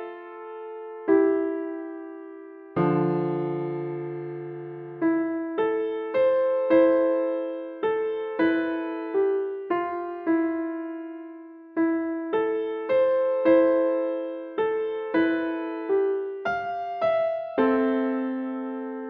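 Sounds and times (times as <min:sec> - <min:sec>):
solo piano melody: 0:00.0 - 0:19.0.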